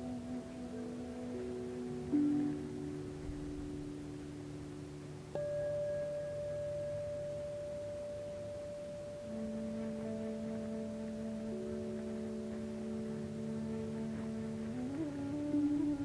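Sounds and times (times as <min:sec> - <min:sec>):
ambient music of held tones: 0:00.0 - 0:16.0.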